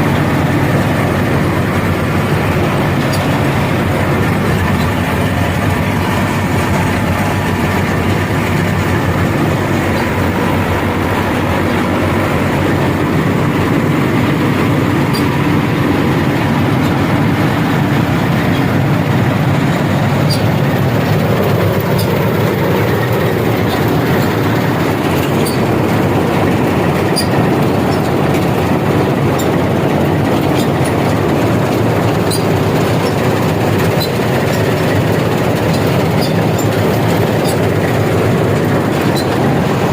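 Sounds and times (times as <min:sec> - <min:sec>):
combine harvester running: 0:00.0 - 0:39.9
rattling clatter: 0:00.0 - 0:39.9.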